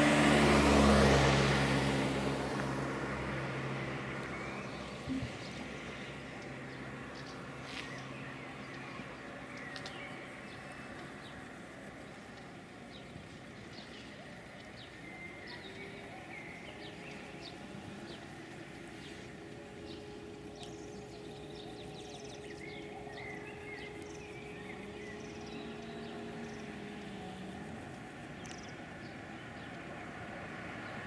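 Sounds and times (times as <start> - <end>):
low drone: 0.0 - 31.0
faint steady hum: 2.3 - 31.0
small birds chirping: 4.0 - 31.0.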